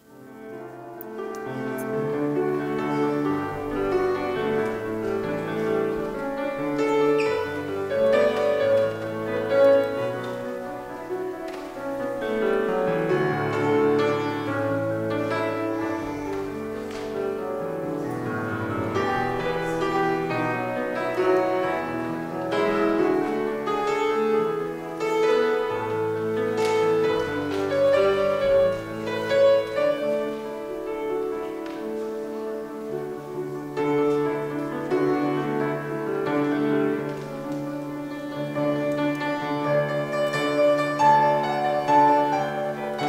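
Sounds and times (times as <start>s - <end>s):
slow classical keyboard chords: 0.0s - 43.0s.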